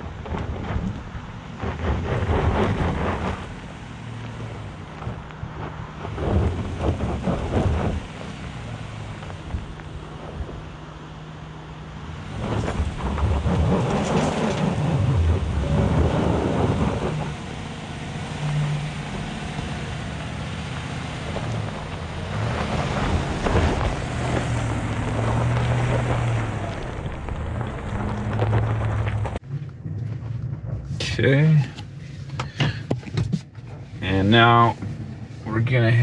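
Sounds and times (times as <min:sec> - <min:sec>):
tyres rumbling on stones: 0:00.0 - 0:11.2, 0:12.0 - 0:35.1
pickup truck engine: 0:00.0 - 0:36.0.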